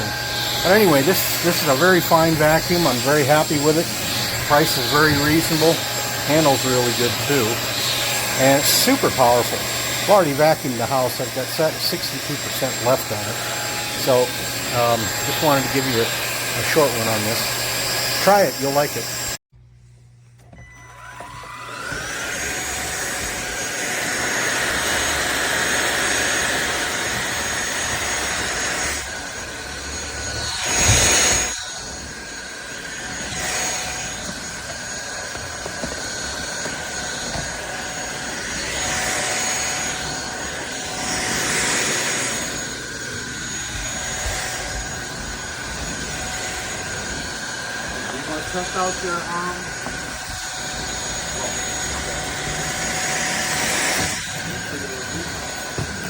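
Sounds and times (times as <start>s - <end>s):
vacuum cleaner motor whining: 0.0s - 19.4s, 20.4s - 56.0s.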